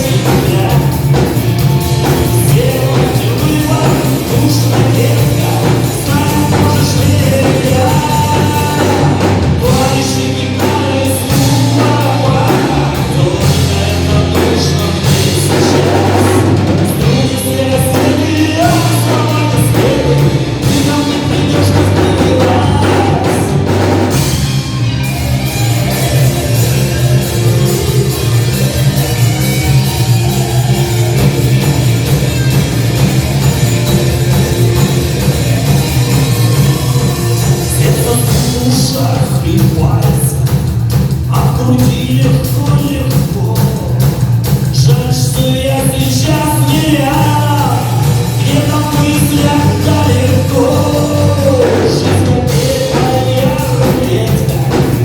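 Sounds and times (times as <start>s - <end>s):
melodic lead guitar line: 0.0s - 55.0s
rock band playing live: 0.0s - 55.0s.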